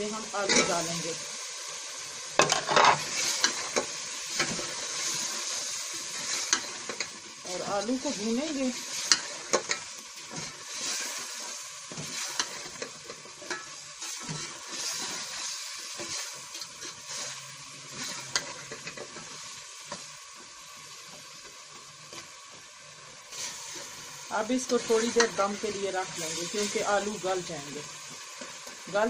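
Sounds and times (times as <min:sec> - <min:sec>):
potatoes sizzling in oil: 0:00.0 - 0:29.0.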